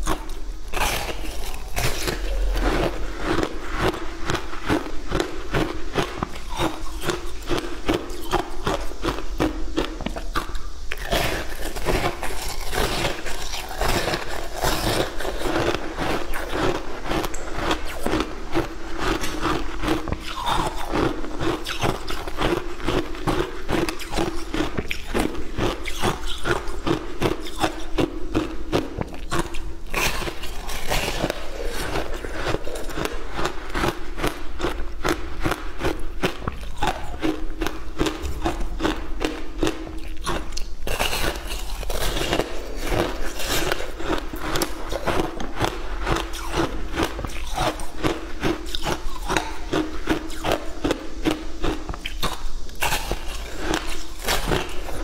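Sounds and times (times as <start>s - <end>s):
crunching and chewing shaved ice: 0.0s - 55.0s.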